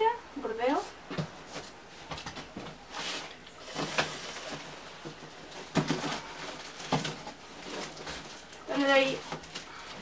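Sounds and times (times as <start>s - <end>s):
cardboard scraping and rustling: 1.2s - 10.0s.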